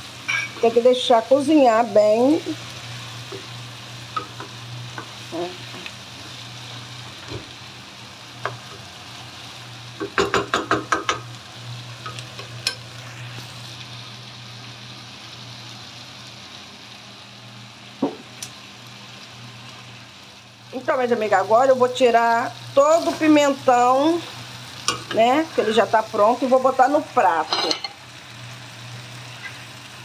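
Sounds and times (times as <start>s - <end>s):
peppers sizzling in a pan: 0.0s - 30.0s.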